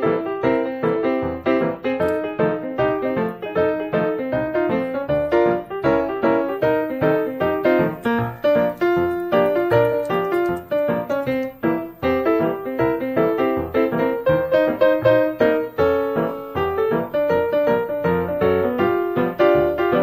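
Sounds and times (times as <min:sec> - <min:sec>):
piano music with quick notes: 0:00.0 - 0:20.0.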